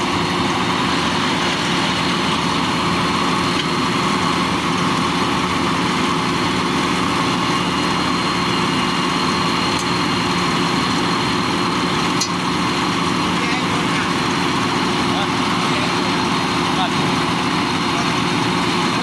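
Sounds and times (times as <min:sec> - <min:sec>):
harvester engine running: 0:00.0 - 0:19.0.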